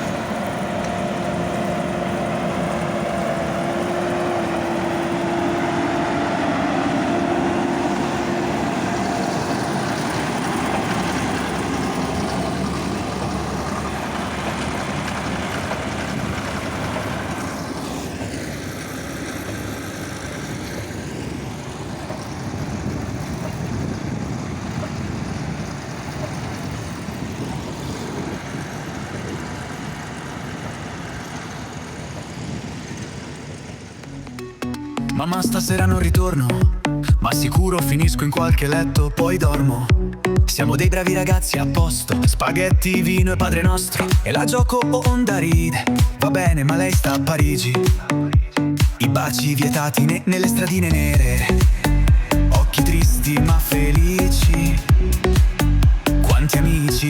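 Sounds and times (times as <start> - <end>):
steady whine: 0.0 - 49.4, 50.6 - 57.0
diesel engine under load: 0.0 - 57.0.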